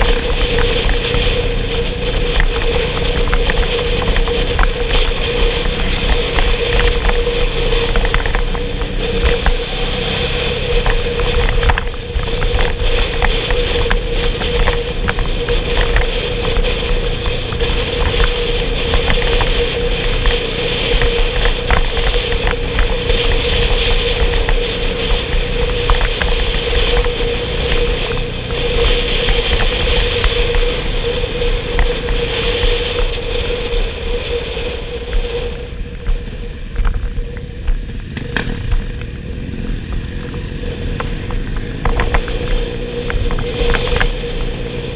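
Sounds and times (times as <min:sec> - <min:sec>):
motorcycle engine humming: 0:00.0 - 0:44.9
road noise: 0:00.0 - 0:44.9
wind rush: 0:00.0 - 0:44.9.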